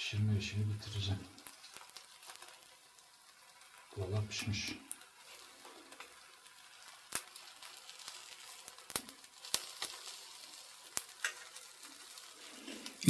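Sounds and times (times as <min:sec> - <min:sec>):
faint sizzle of roasting meat: 0:00.0 - 0:13.0
wood embers crackling: 0:00.0 - 0:13.0
sharp pops of embers: 0:00.5 - 0:13.0.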